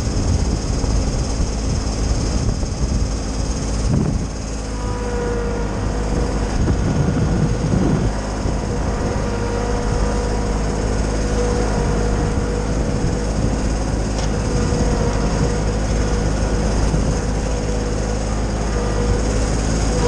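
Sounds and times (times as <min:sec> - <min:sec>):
high-pitched chipper whine: 0:00.0 - 0:20.0
tractor running wood chipper: 0:00.0 - 0:20.0.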